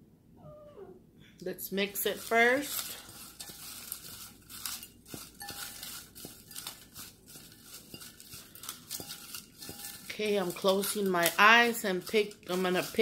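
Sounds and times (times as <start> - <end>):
paper slips rustling in bowl: 1.6 - 13.0.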